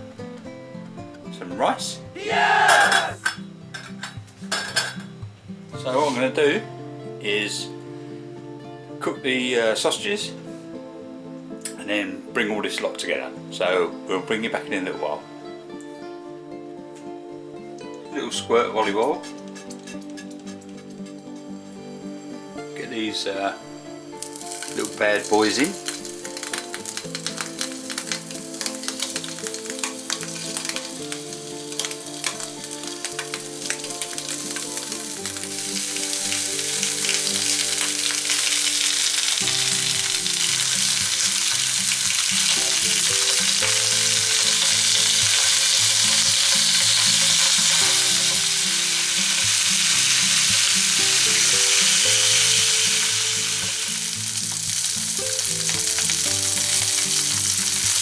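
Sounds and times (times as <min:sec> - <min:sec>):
soft background music: 0:00.0 - 0:58.0
sausages sizzling in a pan: 0:01.7 - 0:16.4, 0:17.0 - 0:58.0.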